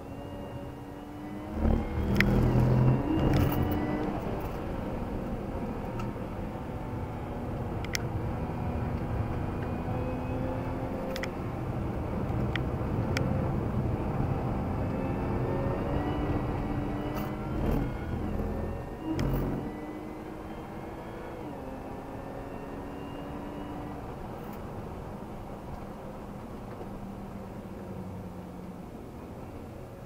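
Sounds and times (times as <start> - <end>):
car engine from inside cabin: 0.0 - 30.0.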